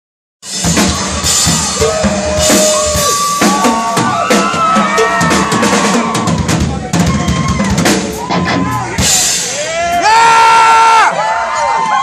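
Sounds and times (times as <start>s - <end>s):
drum kit playing: 0.4s - 10.6s.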